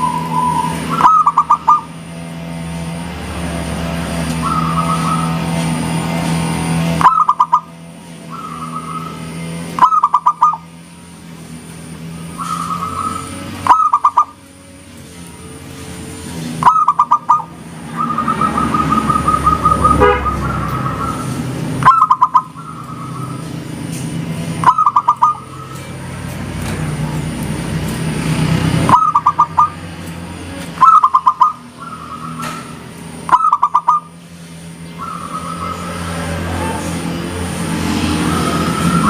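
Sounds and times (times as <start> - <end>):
doves cooing: 0.0 - 15.6, 16.4 - 23.8, 24.5 - 26.2, 28.2 - 39.0.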